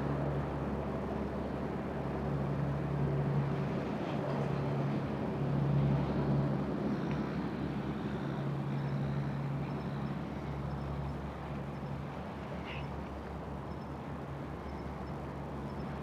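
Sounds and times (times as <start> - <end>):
boat engine droning: 0.9 - 16.0.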